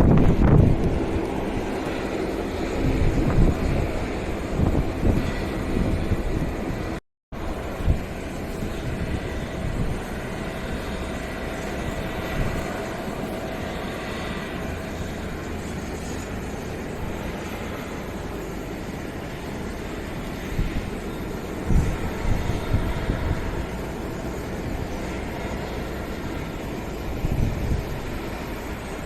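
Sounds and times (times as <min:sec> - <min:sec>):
jet engines running: 0:00.0 - 0:29.0
wind buffeting microphone: 0:00.0 - 0:29.0.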